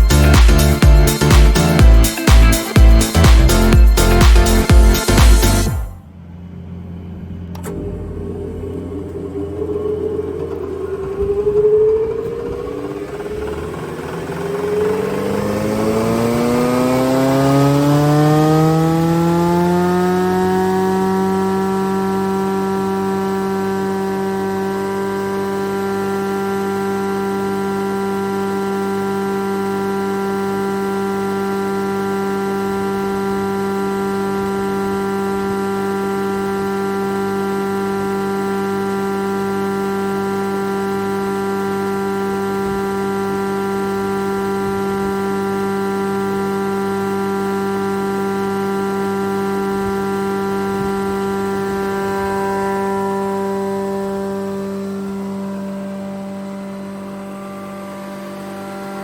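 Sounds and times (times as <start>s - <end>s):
planer running with steady whine: 0.0s - 59.0s.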